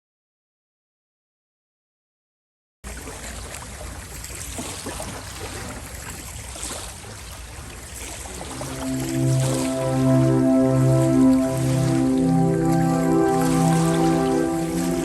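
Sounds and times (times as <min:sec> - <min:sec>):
rushing water: 0:02.9 - 0:15.0.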